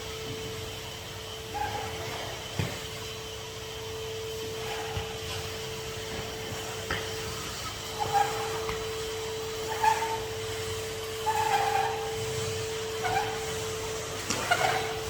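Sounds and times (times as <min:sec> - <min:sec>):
vacuum cleaner whine: 0:00.0 - 0:15.0.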